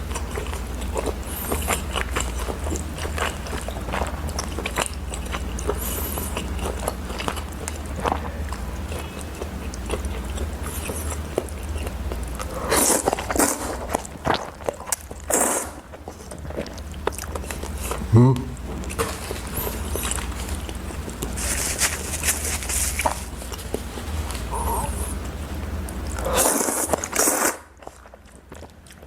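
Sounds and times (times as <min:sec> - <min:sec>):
person chewing and crunching: 0:00.0 - 0:29.0.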